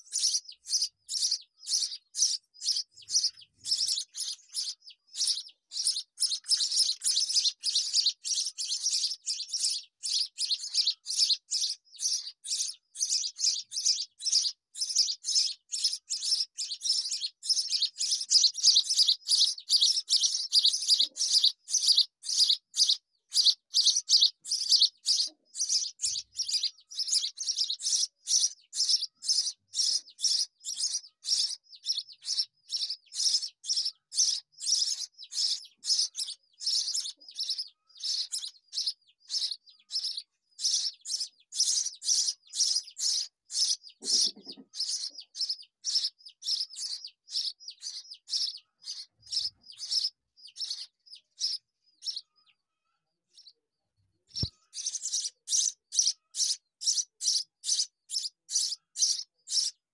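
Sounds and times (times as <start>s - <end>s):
nestlings begging chirps: 0.0s - 53.6s, 54.2s - 59.9s.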